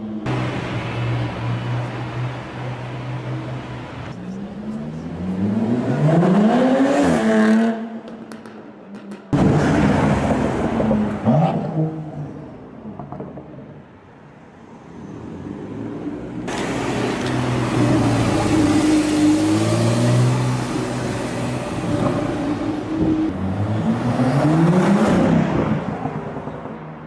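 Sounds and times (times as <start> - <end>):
traffic: 0.0 - 27.0.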